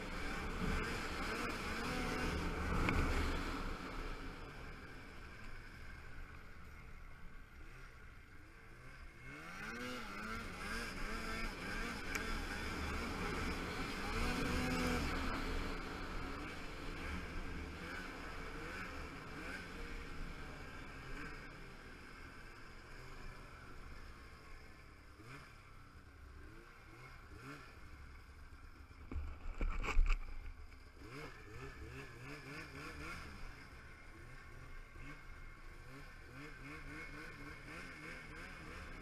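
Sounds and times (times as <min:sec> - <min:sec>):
snowmobile engine revving: 0:00.0 - 0:06.2, 0:07.5 - 0:28.3, 0:30.8 - 0:39.0.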